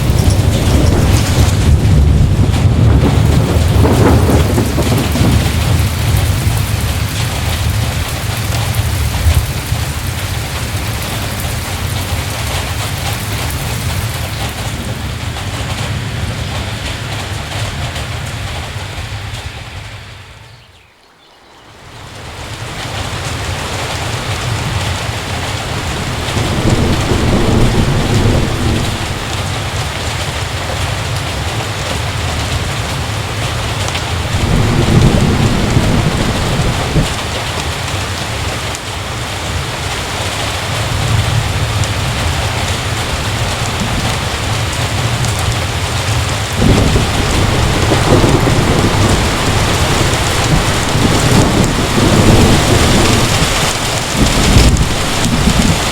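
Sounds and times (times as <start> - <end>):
low rolls of thunder: 0.0 - 20.5, 21.9 - 38.8, 39.5 - 55.9
heavy rain falling: 0.0 - 55.9.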